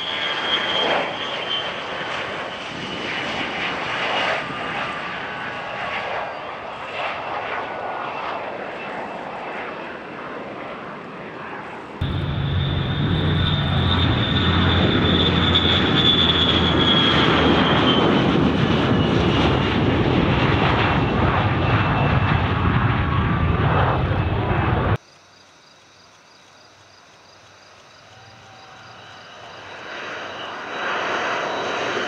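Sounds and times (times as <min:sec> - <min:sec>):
jet engine roaring: 0:00.0 - 0:25.0, 0:28.0 - 0:32.0.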